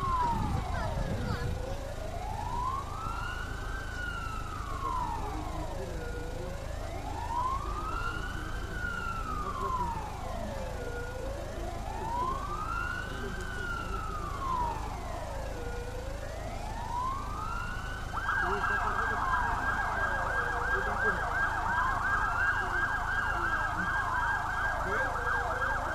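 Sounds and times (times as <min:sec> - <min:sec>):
low background rumble: 0:00.0 - 0:25.0
siren wailing: 0:00.0 - 0:25.9.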